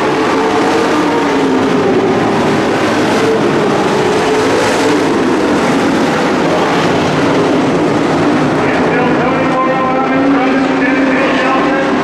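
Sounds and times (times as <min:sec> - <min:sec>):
race truck engines: 0:00.0 - 0:12.0
truck passing close: 0:00.0 - 0:12.0.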